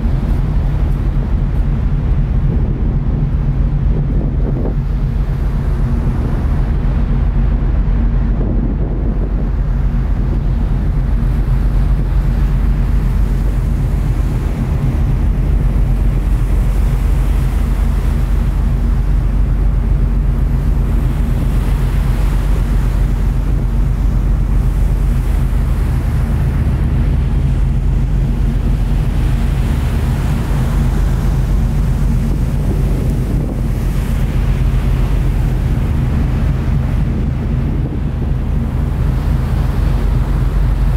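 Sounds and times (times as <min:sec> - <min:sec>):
sea water rushing: 0:00.0 - 0:40.9
wind buffeting microphone: 0:00.0 - 0:40.9.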